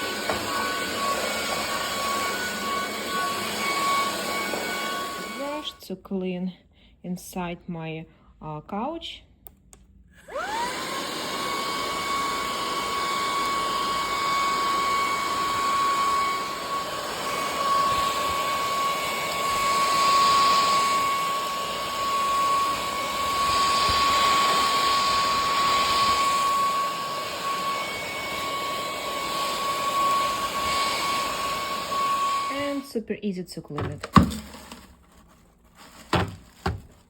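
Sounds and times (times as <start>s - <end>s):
vacuum cleaner motor whine: 0.0s - 5.8s, 10.2s - 32.9s, 33.8s - 35.2s, 35.8s - 37.0s.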